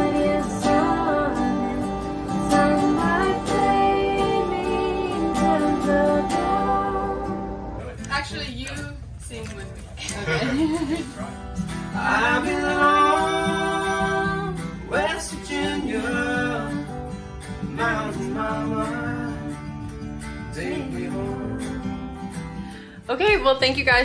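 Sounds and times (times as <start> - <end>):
people singing country song: 0.0 - 7.9, 10.3 - 22.9
strummed acoustic guitars: 0.0 - 24.0.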